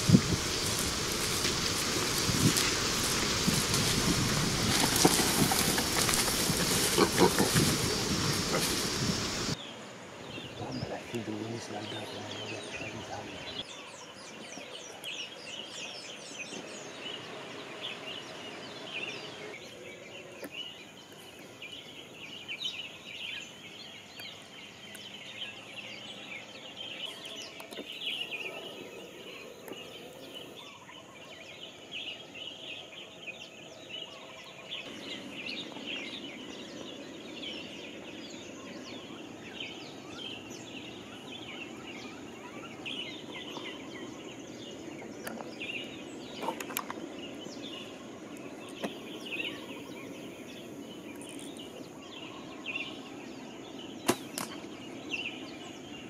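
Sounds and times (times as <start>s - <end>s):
chorus of small birds chirping: 0.0s - 56.0s.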